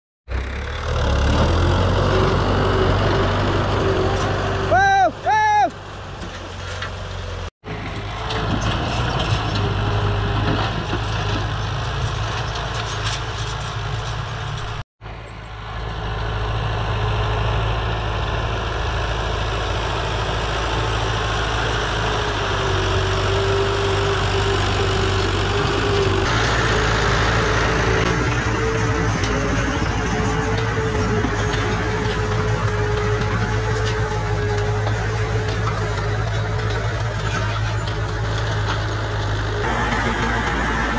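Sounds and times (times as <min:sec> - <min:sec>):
tractor diesel engine under load: 0:00.3 - 0:40.9.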